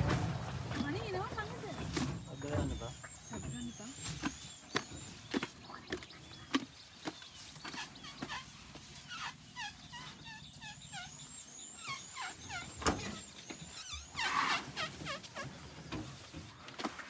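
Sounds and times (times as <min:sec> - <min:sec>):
birds calling with downward notes: 0:00.0 - 0:16.5.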